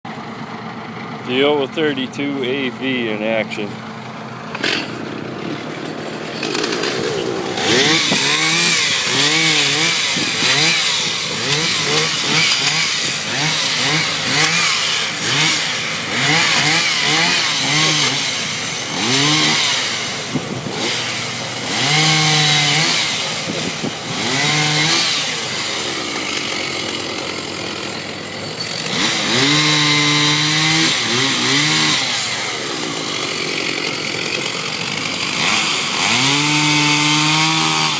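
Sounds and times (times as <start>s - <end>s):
chainsaw revving: 0.2s - 37.9s.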